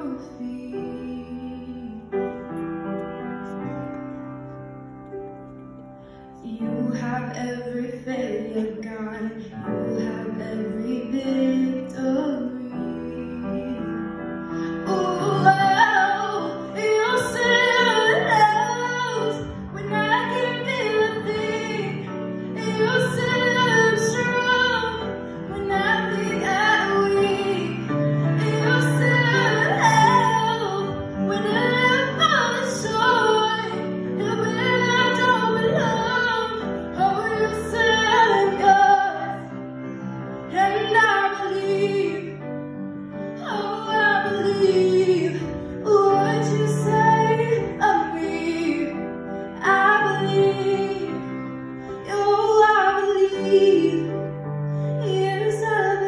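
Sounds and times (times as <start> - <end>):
woman singing: 0.0 - 2.4, 6.4 - 39.6, 40.4 - 42.4, 43.4 - 51.4, 52.0 - 54.3, 55.0 - 56.0
grand piano: 0.0 - 56.0.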